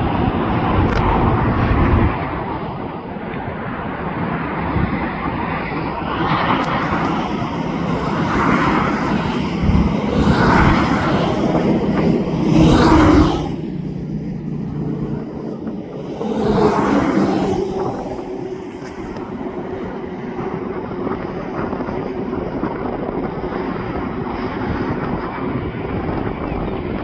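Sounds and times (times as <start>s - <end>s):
jet engines rushing: 0.0s - 27.0s.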